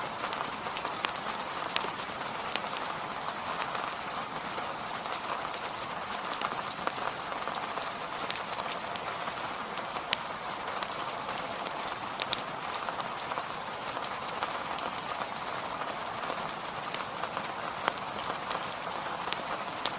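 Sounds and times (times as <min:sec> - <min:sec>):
steady rain hiss: 0:00.0 - 0:19.9.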